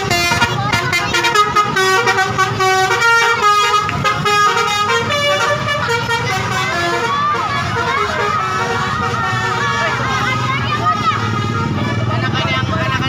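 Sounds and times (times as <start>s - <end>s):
multi-tone bus horns playing tune: 0.0s - 12.8s.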